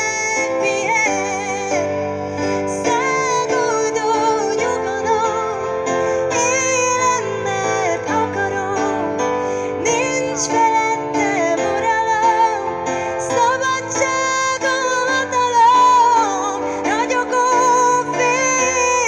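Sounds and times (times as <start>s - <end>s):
stage piano: 0.0s - 19.0s
woman singing into a microphone: 0.0s - 19.0s.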